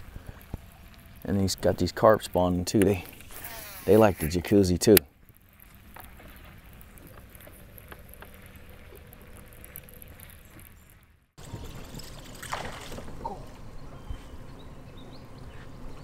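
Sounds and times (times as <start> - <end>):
outdoor ambience: 0.0 - 16.0
water trickling and lapping: 0.0 - 16.0.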